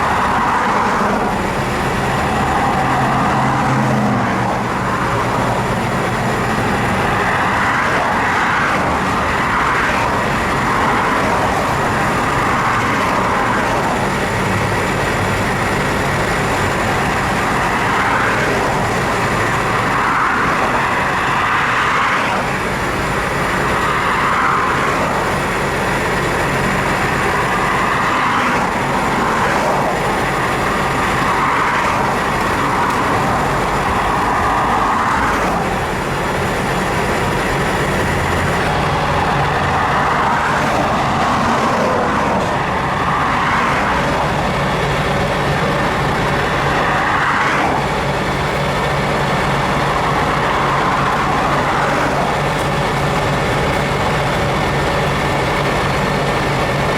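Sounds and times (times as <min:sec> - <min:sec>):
low engine hum: 0:00.0 - 0:56.9
road noise hiss: 0:00.0 - 0:56.9.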